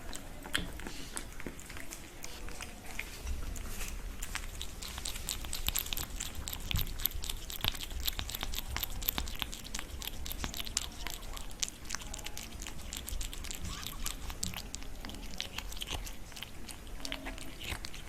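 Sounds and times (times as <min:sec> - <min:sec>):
cat chewing food: 0:00.0 - 0:18.0.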